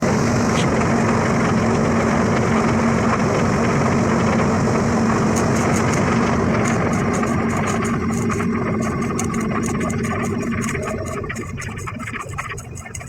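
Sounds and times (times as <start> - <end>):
low hum: 0.0 - 13.0
welding arc crackling: 0.4 - 13.0.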